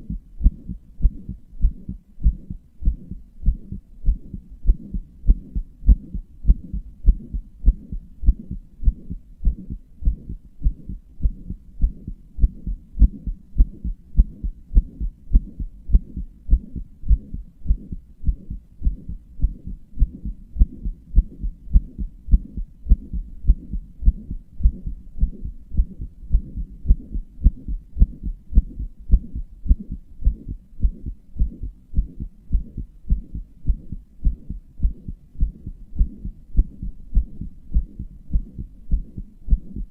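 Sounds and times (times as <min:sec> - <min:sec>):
heart murmur: 0:00.0 - 0:39.9
heartbeat: 0:00.0 - 0:39.9.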